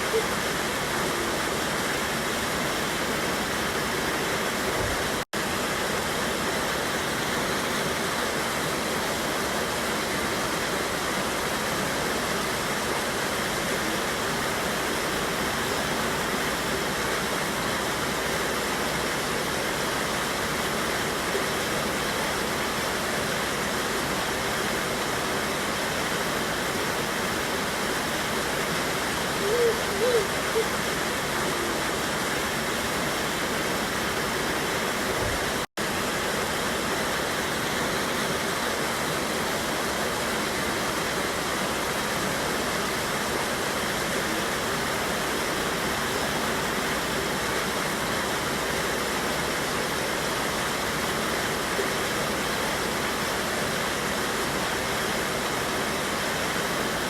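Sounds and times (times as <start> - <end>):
water rushing over waterfall: 0.0 - 57.0.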